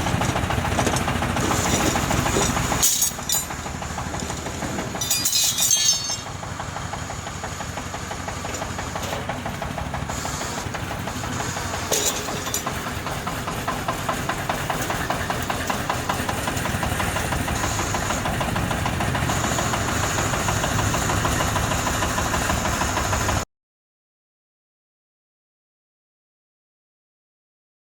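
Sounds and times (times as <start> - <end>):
excavator engine clattering: 0.0 - 23.4.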